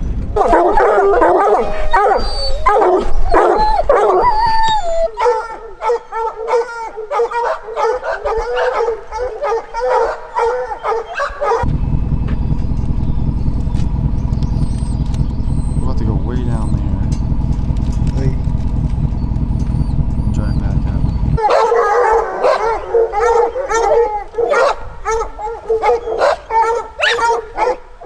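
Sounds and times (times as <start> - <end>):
vehicle engine rumble: 0.0 - 5.9, 8.2 - 28.0
dogs barking: 0.4 - 11.7, 12.3 - 28.0
hounds howling: 0.4 - 28.0.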